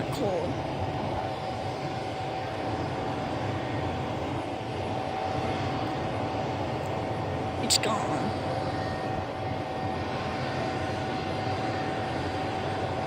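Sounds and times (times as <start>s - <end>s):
distant jet engines rumble: 0.0s - 13.0s
thin steady whine: 0.0s - 13.0s.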